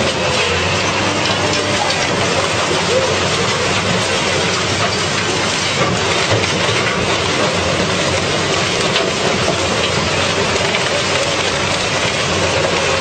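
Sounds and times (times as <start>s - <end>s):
metal grinding clatter: 0.0s - 13.0s.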